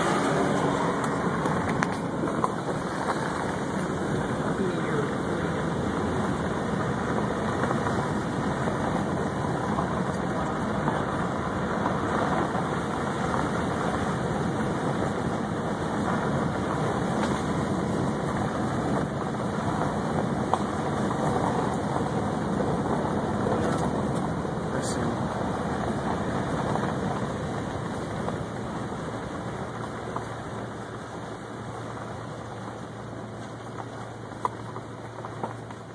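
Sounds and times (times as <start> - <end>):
car driving on gravel road: 0.0 - 35.9.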